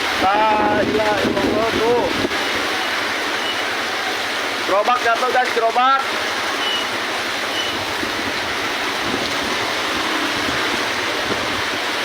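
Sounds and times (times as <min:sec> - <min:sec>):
strong wind: 0:00.0 - 0:04.6, 0:06.9 - 0:12.0
torrential rain: 0:00.0 - 0:12.0.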